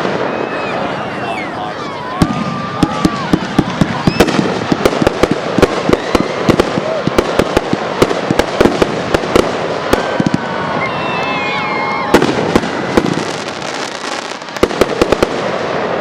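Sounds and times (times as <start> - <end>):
fireworks bangs and pops: 0.0 - 1.0, 2.2 - 16.0.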